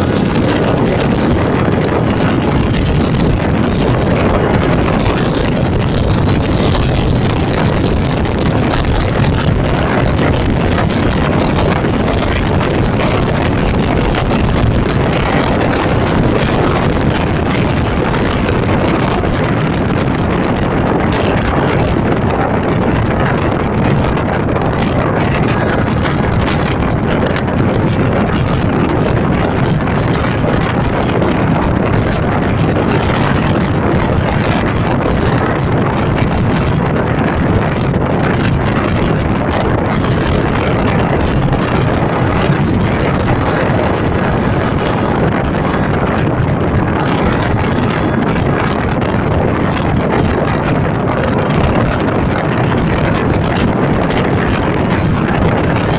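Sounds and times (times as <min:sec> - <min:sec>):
vehicle running rumble: 0:00.0 - 0:55.9
wind buffeting microphone: 0:00.0 - 0:55.9.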